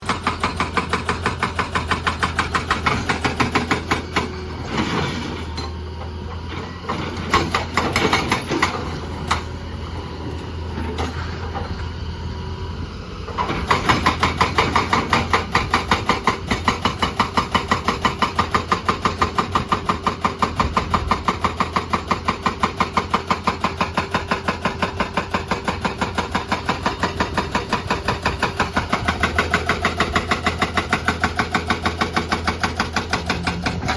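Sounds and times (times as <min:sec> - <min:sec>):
hydraulic breaker hammering: 0:00.0 - 0:04.4, 0:06.9 - 0:09.6, 0:13.4 - 0:33.9
diesel engine running: 0:00.0 - 0:33.9.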